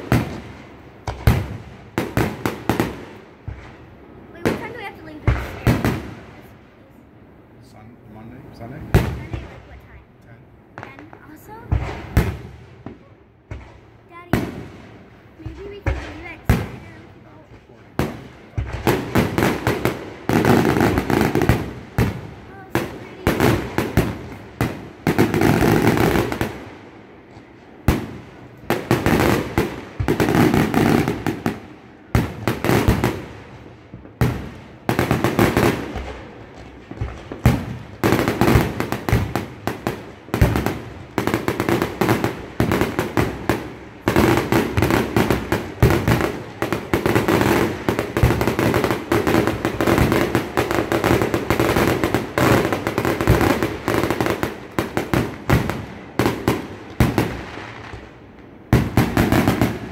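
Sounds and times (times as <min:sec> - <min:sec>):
firework crackle: 0:00.0 - 0:59.9.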